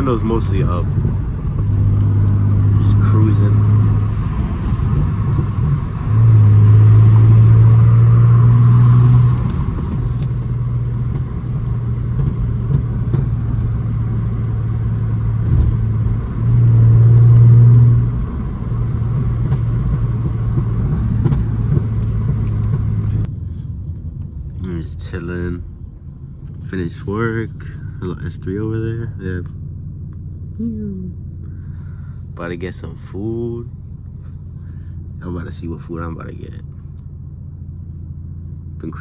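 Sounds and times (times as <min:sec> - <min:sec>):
car exhaust drone: 0:00.0 - 0:39.0.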